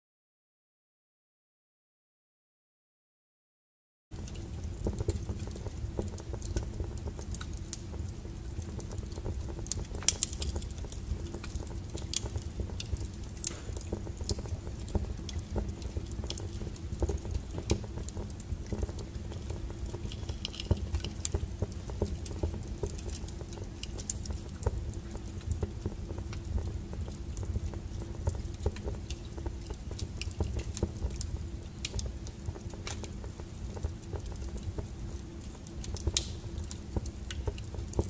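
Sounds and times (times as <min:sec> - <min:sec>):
wood fire crackling and popping: 0:04.2 - 0:38.0.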